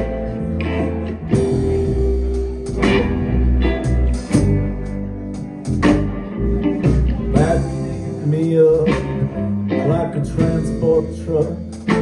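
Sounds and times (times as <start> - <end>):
live band playing instrumental: 0.0 - 12.0.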